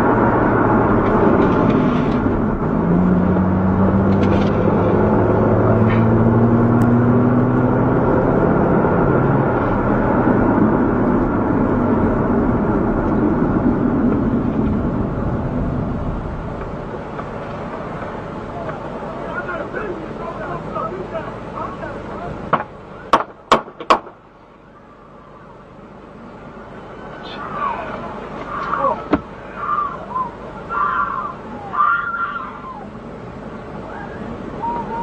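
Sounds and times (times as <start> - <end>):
car engine running: 0.0 - 35.0
road noise: 0.0 - 35.0.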